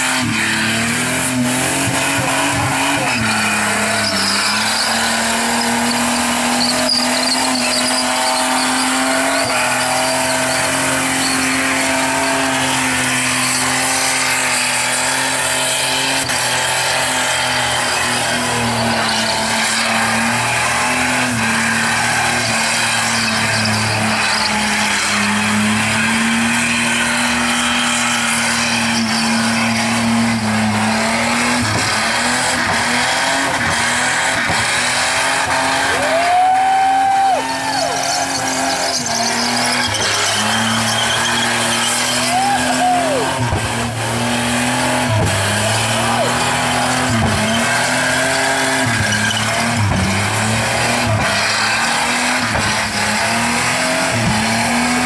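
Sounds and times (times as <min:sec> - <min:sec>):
engine at high revs: 0:00.0 - 0:55.0
tyres squealing: 0:00.1 - 0:55.0.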